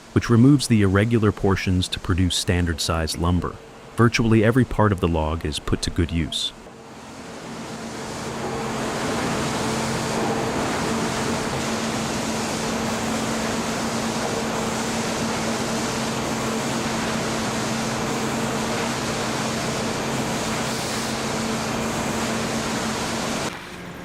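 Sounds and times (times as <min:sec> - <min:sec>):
steady hum: 0:00.0 - 0:24.0
sawmill machinery running: 0:00.1 - 0:24.0.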